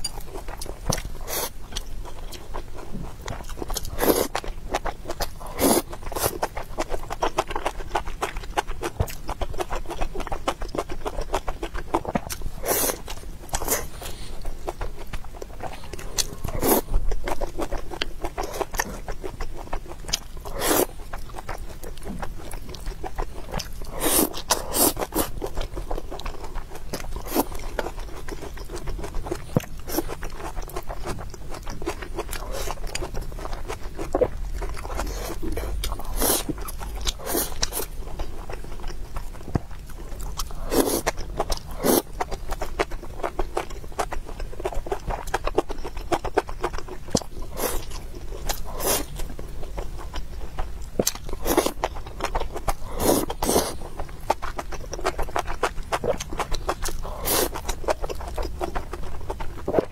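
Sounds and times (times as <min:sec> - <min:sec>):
wet chewing and mouth smacks: 0:00.0 - 0:59.9.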